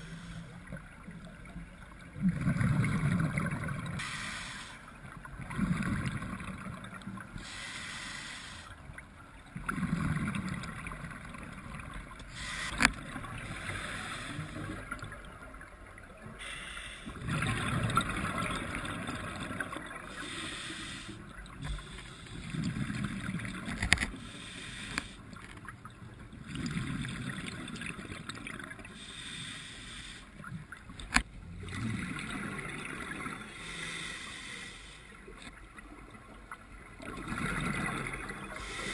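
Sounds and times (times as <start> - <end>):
underwater bubbles and regulator breaths: 0.0 - 38.9.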